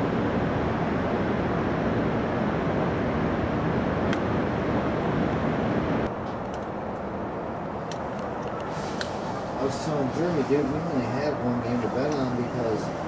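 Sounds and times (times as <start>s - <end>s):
city traffic roar: 0.0s - 13.0s.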